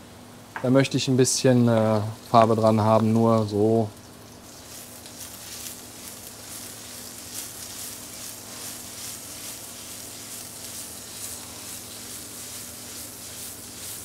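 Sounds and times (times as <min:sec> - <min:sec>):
mushrooms sizzling in butter: 0:01.5 - 0:14.0.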